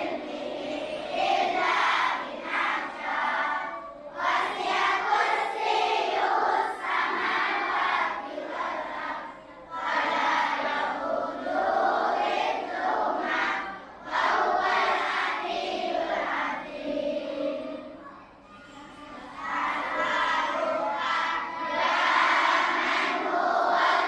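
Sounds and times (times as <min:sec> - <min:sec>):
children chanting in unison: 0:00.0 - 0:24.0.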